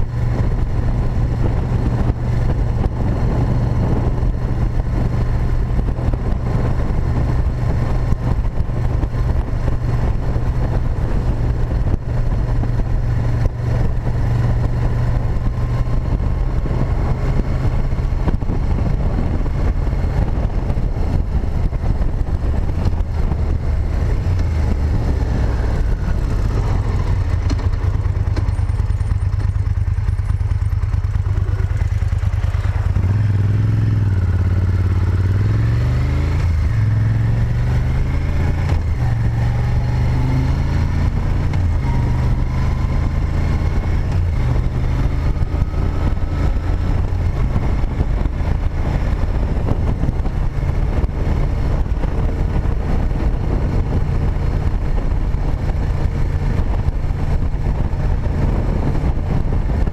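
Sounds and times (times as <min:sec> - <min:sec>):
motorcycle engine cruising: 0:00.0 - 0:59.9
riding wind rushing: 0:00.0 - 0:59.9.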